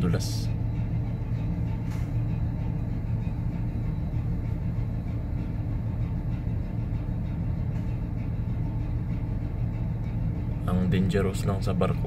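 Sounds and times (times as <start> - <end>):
ship low rumble: 0.0 - 12.0.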